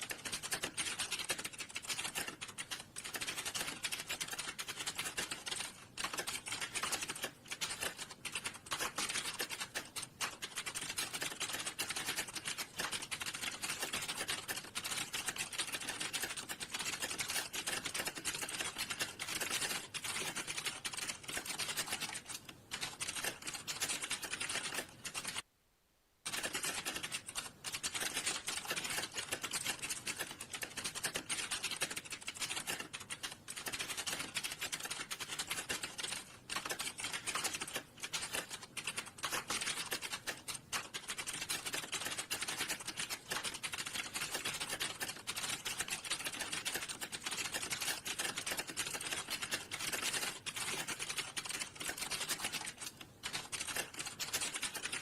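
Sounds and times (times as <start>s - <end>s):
fast typing on keyboard: 0.0s - 25.5s, 26.2s - 55.0s.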